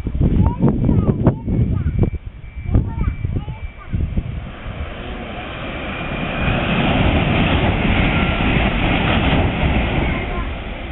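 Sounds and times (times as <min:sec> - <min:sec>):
bullet train passing with roar: 0:00.0 - 0:10.9.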